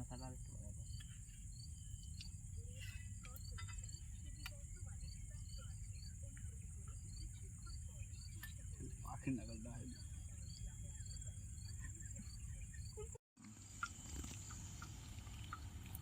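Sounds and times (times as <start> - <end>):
crickets chirring: 0.0 - 15.7.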